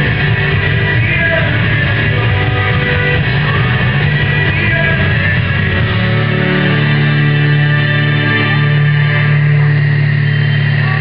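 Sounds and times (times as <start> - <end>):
rock music with guitar: 0.0 - 11.0.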